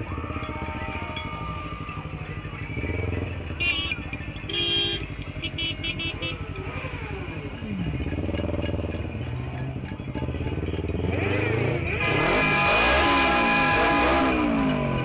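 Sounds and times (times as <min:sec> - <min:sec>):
horns honking: 0:00.0 - 0:15.0
motorcycle engine running: 0:00.0 - 0:15.0.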